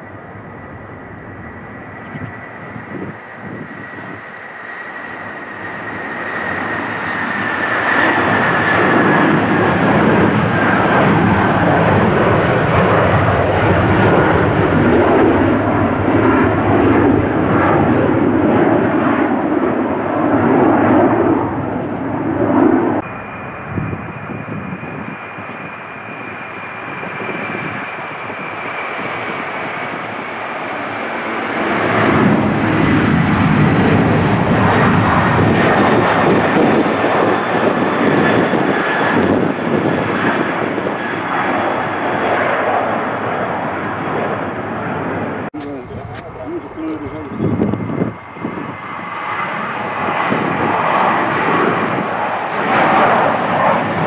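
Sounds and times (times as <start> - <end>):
jet airliner takeoff roll: 0.0 - 54.0
jet engines at takeoff power: 0.0 - 54.0.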